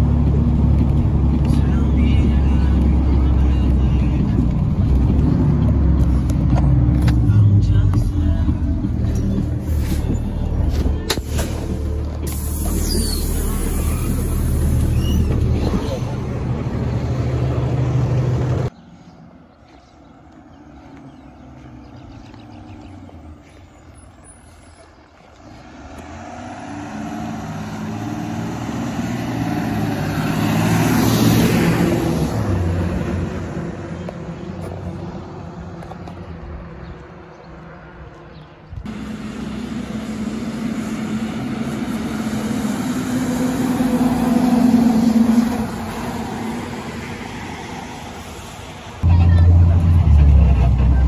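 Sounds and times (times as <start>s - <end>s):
bus diesel engine accelerating: 0.0s - 18.8s, 19.7s - 51.0s.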